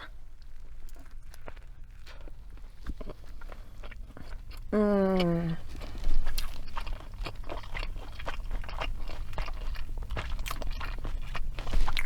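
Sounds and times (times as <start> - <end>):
wet crunchy chewing: 0.0 - 12.0.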